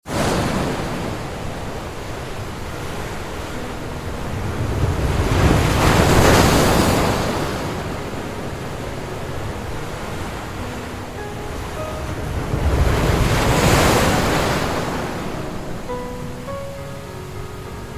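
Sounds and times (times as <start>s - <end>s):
ocean waves on sandy beach: 0.0s - 17.9s.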